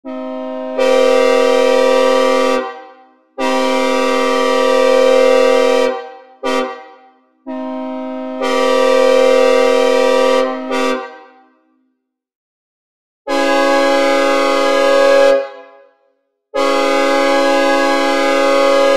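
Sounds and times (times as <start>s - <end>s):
locomotive air horn blasts: 0.0s - 11.6s, 13.3s - 15.9s, 16.6s - 18.9s.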